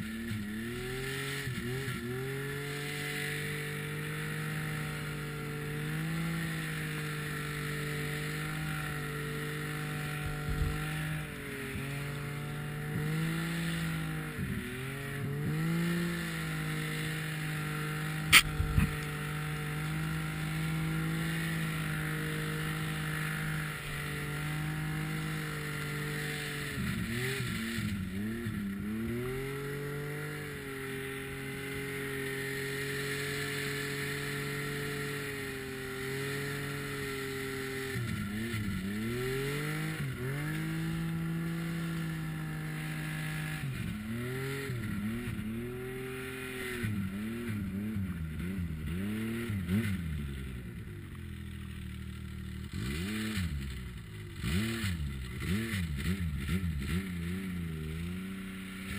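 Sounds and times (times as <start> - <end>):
snowmobile engine revving: 0.0 - 58.9.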